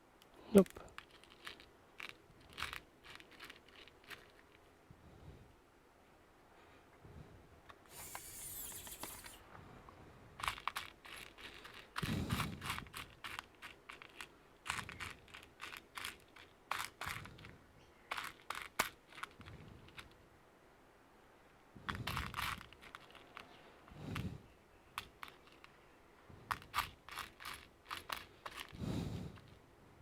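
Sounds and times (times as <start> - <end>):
rustle: 0.0 - 30.0.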